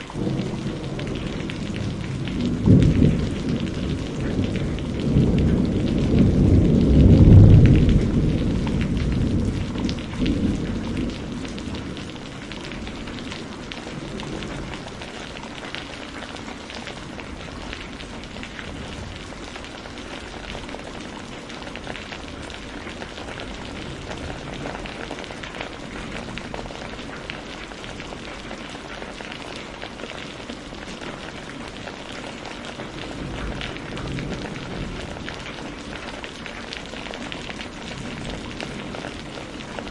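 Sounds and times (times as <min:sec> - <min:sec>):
steady rainfall pattering: 0:00.0 - 0:39.9
low rumble of thunder: 0:00.1 - 0:39.9.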